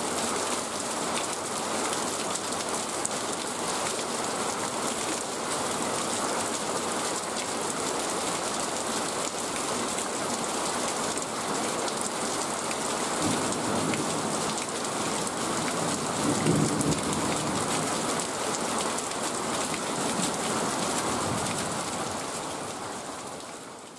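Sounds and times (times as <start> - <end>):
rain falling on puddles: 0.0 - 23.9.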